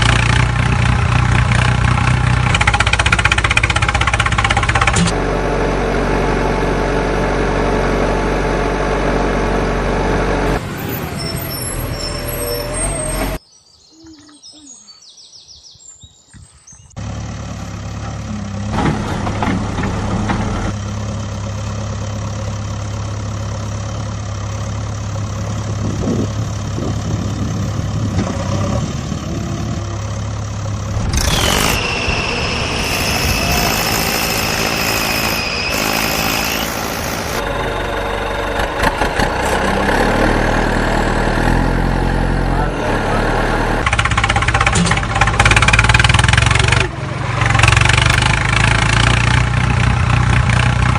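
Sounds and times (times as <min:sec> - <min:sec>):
tractor motor running: 0:00.0 - 0:13.4, 0:17.0 - 0:50.9.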